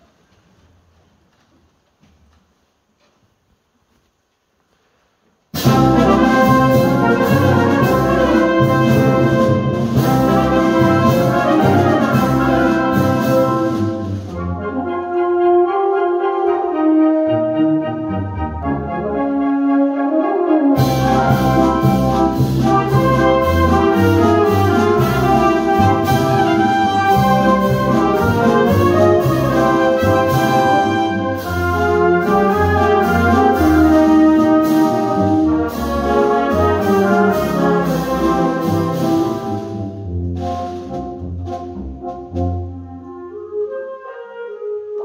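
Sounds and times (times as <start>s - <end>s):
brass: 5.5s - 45.0s
military wind band playing: 5.6s - 45.0s.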